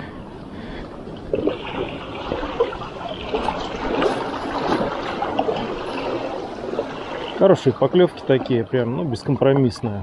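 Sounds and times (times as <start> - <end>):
sea water lapping on rocks: 1.0 - 9.8.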